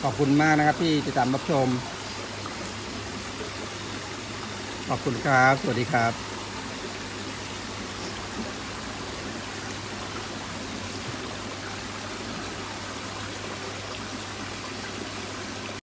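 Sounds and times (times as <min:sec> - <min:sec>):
pond water running: 0:00.0 - 0:15.8.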